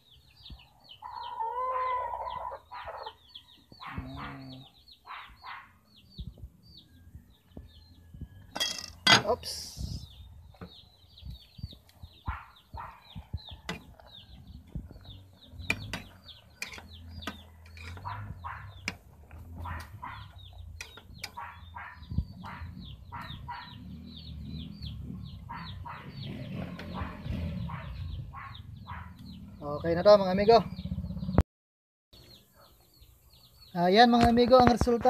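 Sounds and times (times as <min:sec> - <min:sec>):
chickens chirping: 0:00.0 - 0:31.4, 0:32.2 - 0:35.0.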